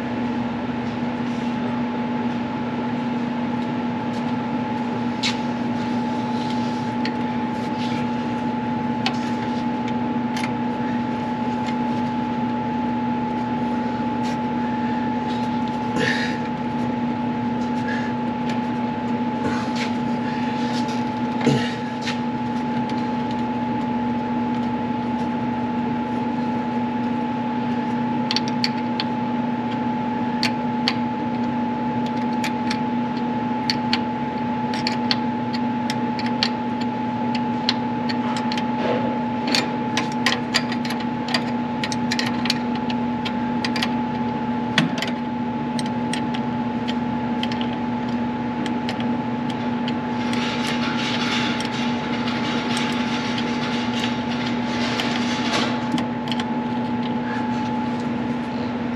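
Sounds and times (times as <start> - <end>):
two-tone mechanical hum: 0.0 - 58.9.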